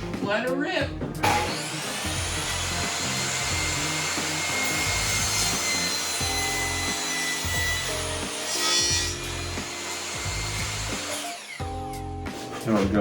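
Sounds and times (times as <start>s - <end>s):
background music with bass: 0.0s - 11.0s, 11.6s - 13.0s
table saw cutting wood: 1.2s - 11.7s.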